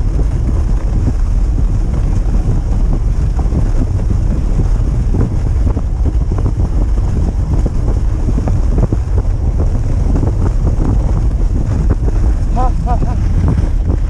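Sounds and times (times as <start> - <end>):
sled scraping over packed snow: 0.0 - 14.0
wind buffeting microphone: 0.0 - 14.0.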